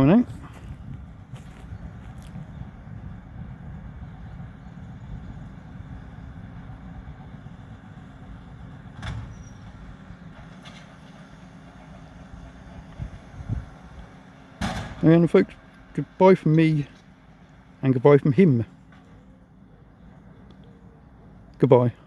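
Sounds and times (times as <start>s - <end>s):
tractor rumbling: 0.0s - 22.0s.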